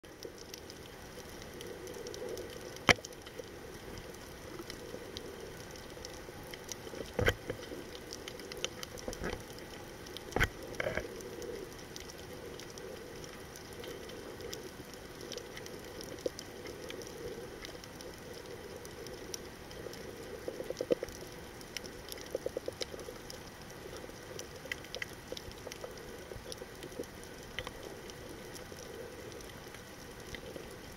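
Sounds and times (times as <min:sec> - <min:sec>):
low underwater hiss: 0:00.1 - 0:30.9
snapping shrimp crackle: 0:00.2 - 0:30.8.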